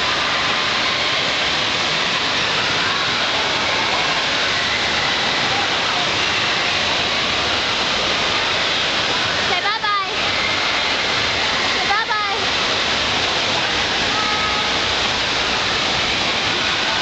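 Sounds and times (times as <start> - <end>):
crowd chatter: 0.0 - 17.0
rushing water: 0.0 - 17.0.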